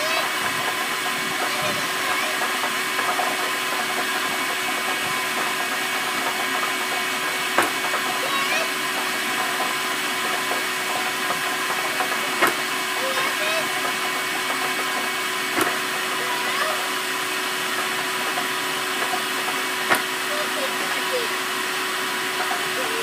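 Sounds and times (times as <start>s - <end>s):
electric air blower running: 0.0s - 23.0s.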